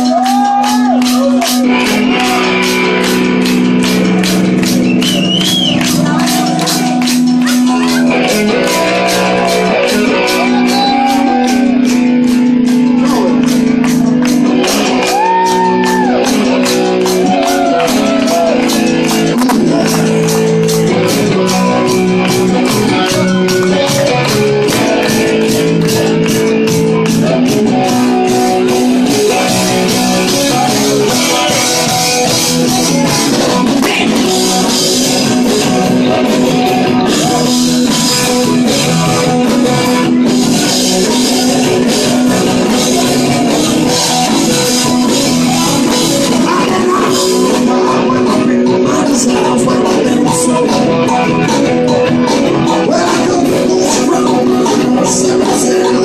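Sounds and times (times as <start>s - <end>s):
handclaps keeping time: 0.0s - 56.0s
live rock band playing: 0.0s - 56.0s.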